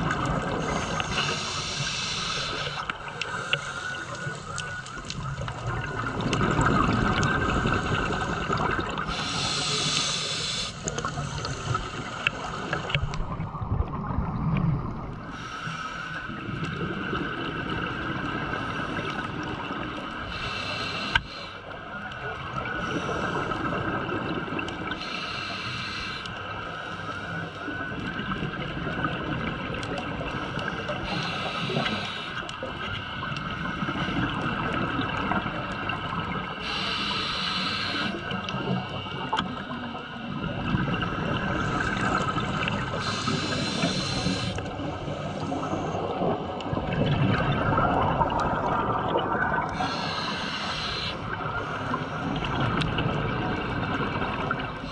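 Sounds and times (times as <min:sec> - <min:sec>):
underwater water noise: 0:00.0 - 0:54.9.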